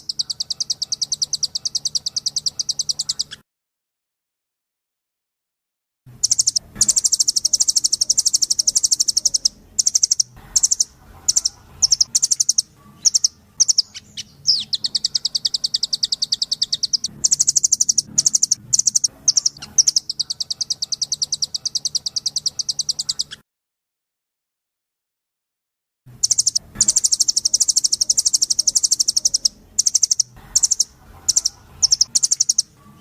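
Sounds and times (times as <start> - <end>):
bird singing fast trills: 0.0 - 3.4, 6.2 - 23.4, 26.2 - 33.0.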